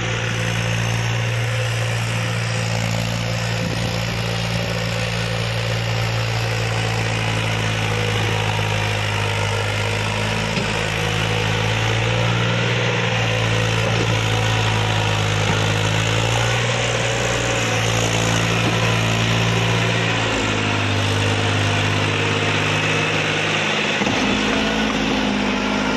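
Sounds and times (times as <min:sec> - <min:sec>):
diesel tractor engine under load: 0:00.0 - 0:25.9.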